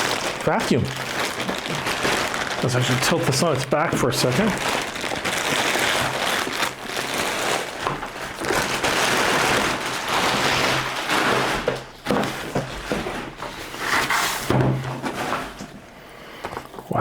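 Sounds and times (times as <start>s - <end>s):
plastic wrap rustling: 0.0s - 16.9s.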